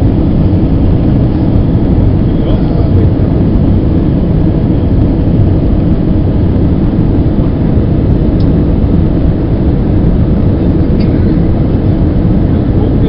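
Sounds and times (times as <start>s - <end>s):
jet engines rumbling in cabin: 0.0s - 13.0s
rushing air: 0.0s - 13.0s.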